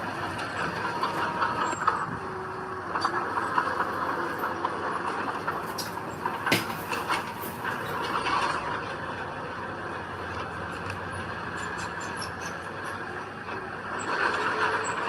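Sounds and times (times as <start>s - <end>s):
heavy earthmoving machinery running: 0.0s - 15.0s.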